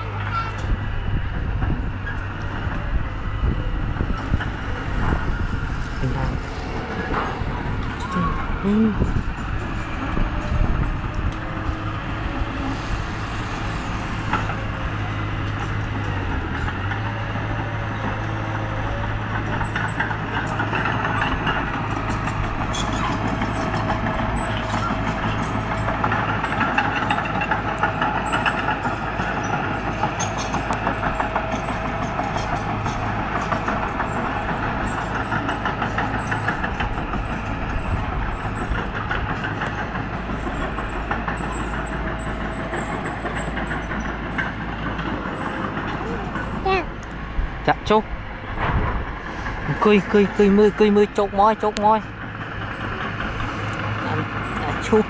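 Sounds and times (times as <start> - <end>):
bulldozer diesel engine running: 0.0 - 55.0
steel tracks clattering: 0.0 - 55.0.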